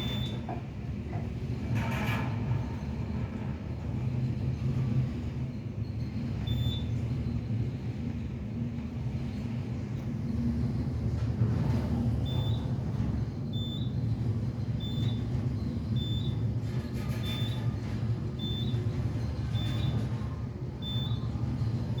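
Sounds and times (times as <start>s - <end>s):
elevator low rumble: 0.0s - 22.0s.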